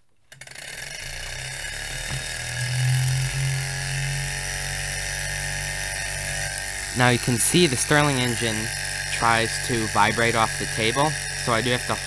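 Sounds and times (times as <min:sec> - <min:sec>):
small engine whirring: 0:00.3 - 0:12.0.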